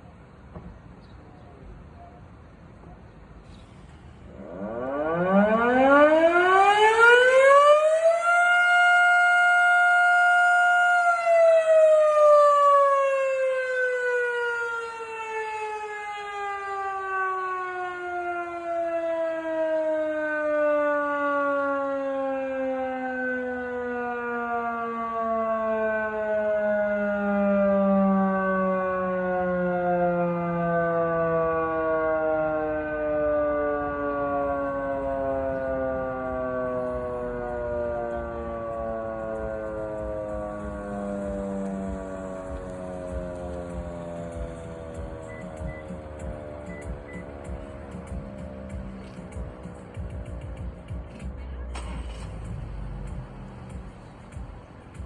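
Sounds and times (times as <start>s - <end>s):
warning siren wailing: 4.2s - 55.0s.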